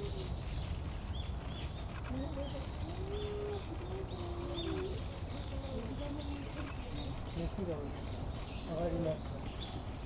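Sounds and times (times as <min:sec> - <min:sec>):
high-pitched insect trill: 0:00.0 - 0:09.7
songbirds chirping: 0:00.0 - 0:10.0.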